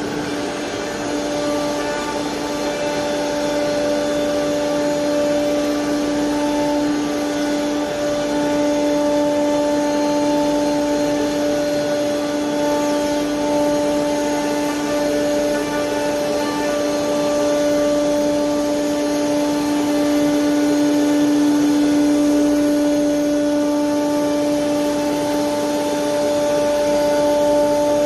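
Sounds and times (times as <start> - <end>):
router spindle tone: 0.0 - 28.0.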